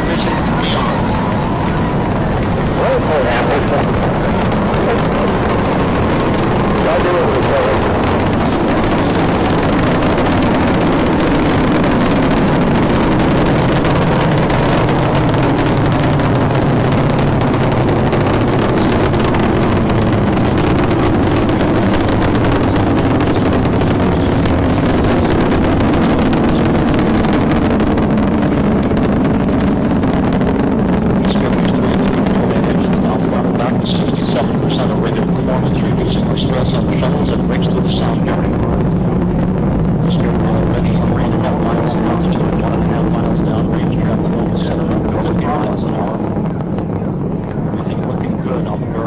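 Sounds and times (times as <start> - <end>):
rocket engines roaring: 0.0 - 49.0.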